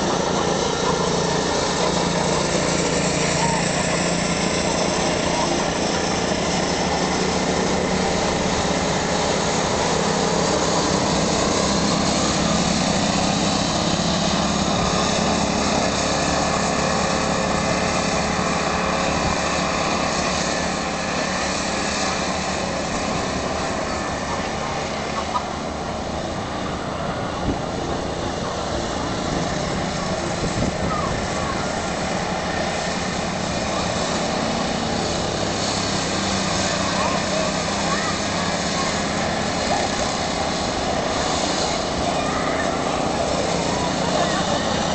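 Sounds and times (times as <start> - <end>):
go-kart engines buzzing: 0.0 - 44.9.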